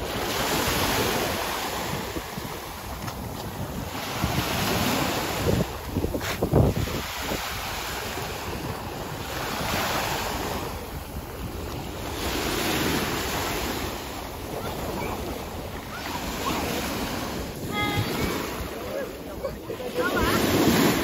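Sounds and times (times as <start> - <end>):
small waves breaking on shore: 0.0 - 21.0
wind buffeting microphone: 0.0 - 21.0.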